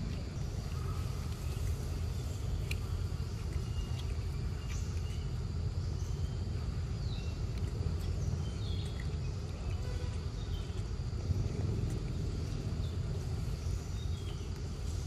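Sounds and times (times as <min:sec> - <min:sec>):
steady low rumble: 0:00.0 - 0:15.0
bird chirps: 0:00.2 - 0:11.6, 0:12.4 - 0:15.0.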